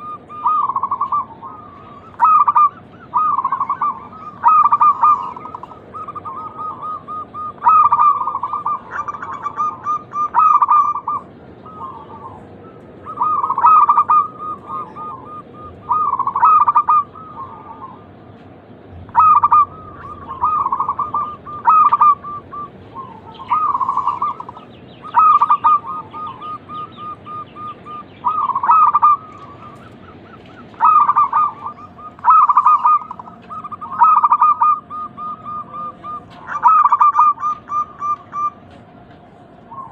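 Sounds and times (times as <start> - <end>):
dove cooing: 0.0 - 18.4, 19.0 - 39.9.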